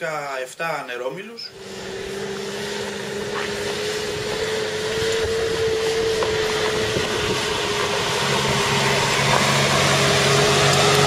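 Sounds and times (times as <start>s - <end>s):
low engine hum: 1.5s - 11.0s
steady rushing noise: 1.5s - 11.0s.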